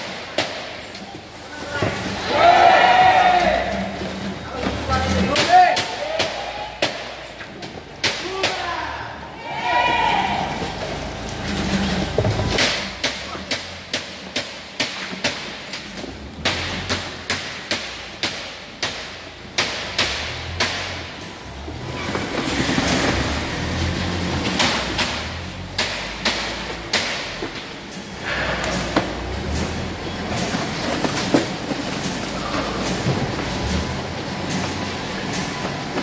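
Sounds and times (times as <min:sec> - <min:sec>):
crates clacking on roller conveyor: 0:00.0 - 0:08.9, 0:09.8 - 0:36.0.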